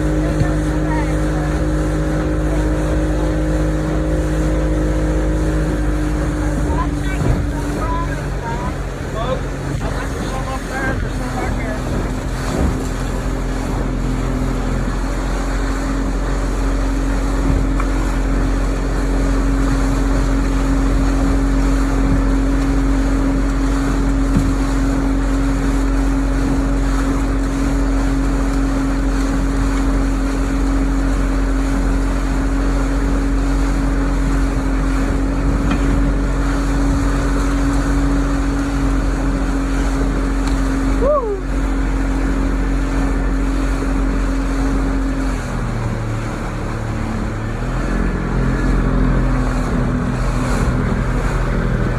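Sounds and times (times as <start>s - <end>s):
motorboat engine hum: 0.0s - 51.9s
rush of wind and water: 0.0s - 51.9s.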